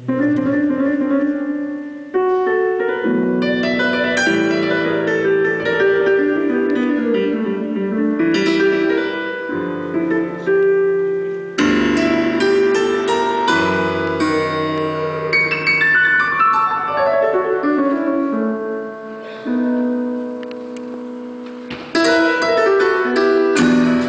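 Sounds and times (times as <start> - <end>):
acoustic guitar: 0.0 - 24.0
piano runs and chords: 0.0 - 24.0.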